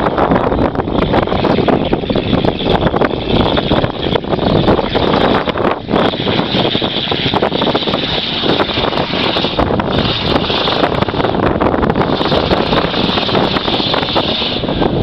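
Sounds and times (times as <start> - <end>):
truck engine running loud: 0.0 - 15.0
wind rumbling on microphone: 0.0 - 15.0.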